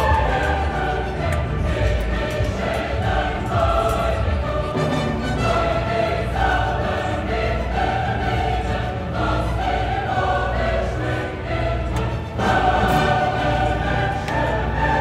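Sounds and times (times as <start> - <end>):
singing in long held notes: 0.0 - 15.0.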